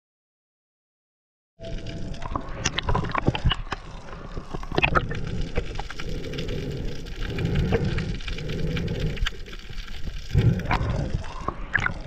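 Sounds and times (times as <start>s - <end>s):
sharp crackles: 1.6s - 12.0s.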